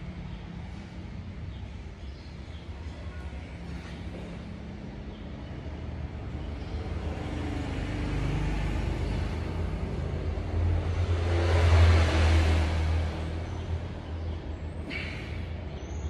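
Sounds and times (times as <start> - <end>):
vehicle engine rumble passing by: 0.0 - 16.0.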